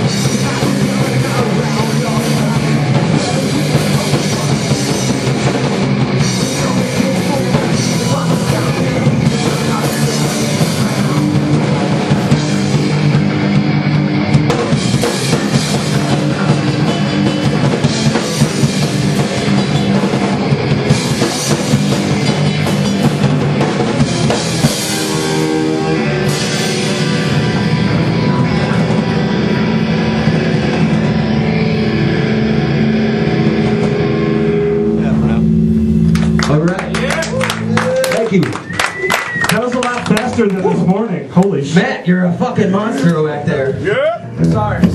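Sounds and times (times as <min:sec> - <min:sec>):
drum kit pounding: 0:00.0 - 0:41.6, 0:44.3 - 0:44.9
driving guitars: 0:00.0 - 0:44.9
punk band playing live: 0:00.0 - 0:44.9.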